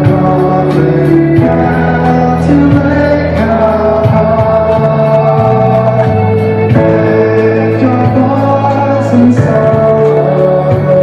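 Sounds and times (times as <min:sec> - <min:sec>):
group singing with instruments: 0:00.0 - 0:11.0.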